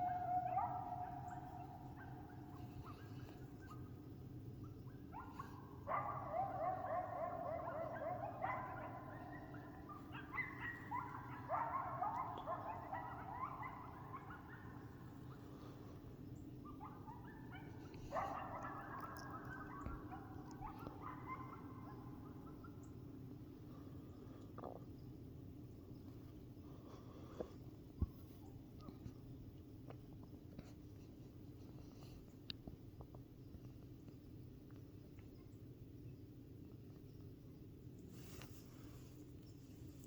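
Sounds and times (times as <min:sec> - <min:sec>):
coyotes yipping and howling: 0:00.0 - 0:40.0.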